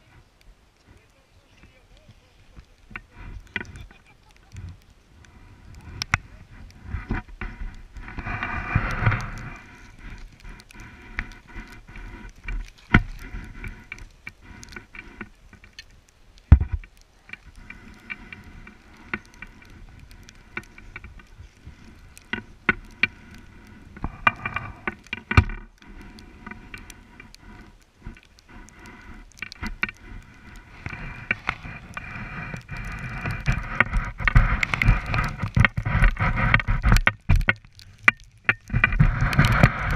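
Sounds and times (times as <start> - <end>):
skis scraping over snow: 0.0 - 39.9
small knocks and clicks: 0.4 - 39.9.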